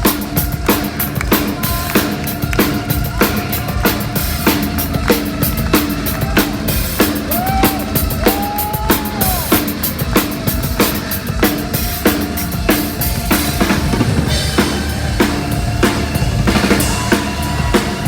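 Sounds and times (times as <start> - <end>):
heavy metal band playing live: 0.0 - 18.0
kick and snare drum beat: 0.0 - 18.0.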